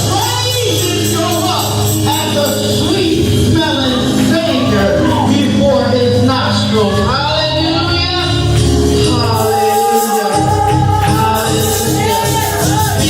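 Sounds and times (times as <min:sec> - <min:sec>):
music with singing: 0:00.0 - 0:13.0.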